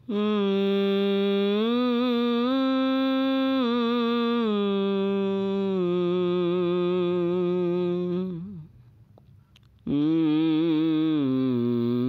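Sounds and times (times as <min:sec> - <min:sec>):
person singing long notes: 0:00.0 - 0:08.7, 0:09.8 - 0:12.0.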